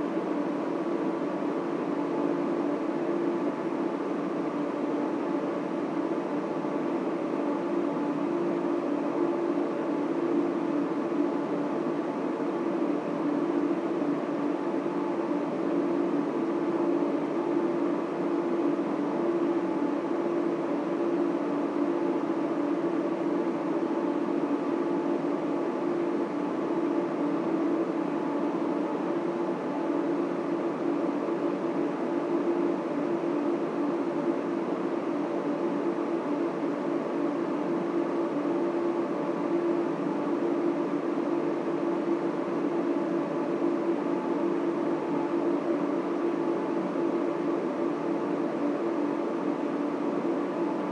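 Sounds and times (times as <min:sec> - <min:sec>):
cooling fans whirring: 0:00.0 - 0:50.9.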